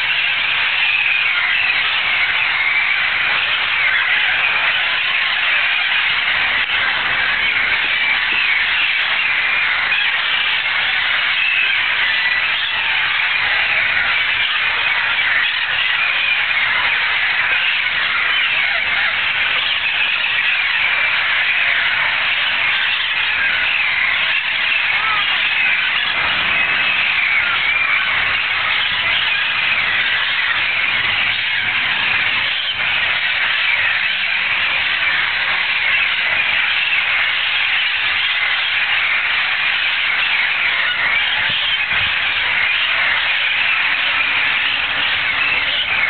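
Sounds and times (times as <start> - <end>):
parrots squawking: 0.0 - 46.0.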